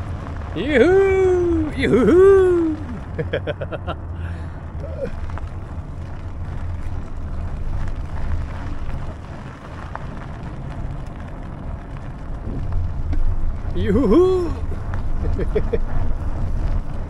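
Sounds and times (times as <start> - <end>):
bicycle tyres rolling: 0.0 - 17.0
wind on microphone: 0.0 - 17.0.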